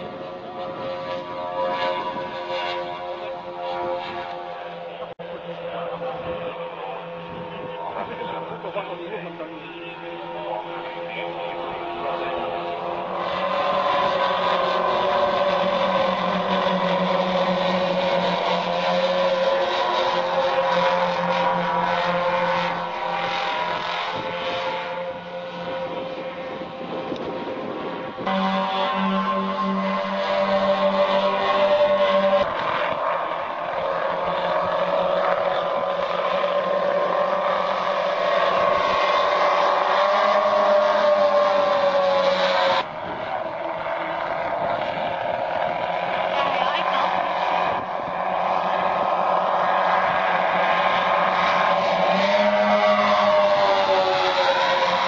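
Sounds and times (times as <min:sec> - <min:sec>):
model airplane engines droning: 0:00.0 - 0:55.0.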